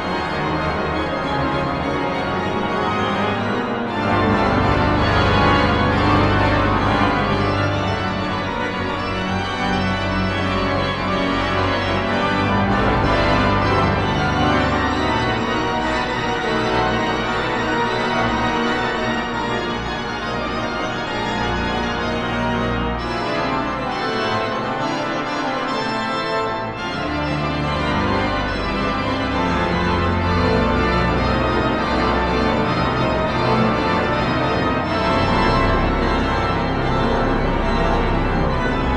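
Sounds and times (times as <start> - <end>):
deep organ pedal bass: 0.0 - 26.0, 26.8 - 38.9
pipe organ chords: 0.0 - 38.9.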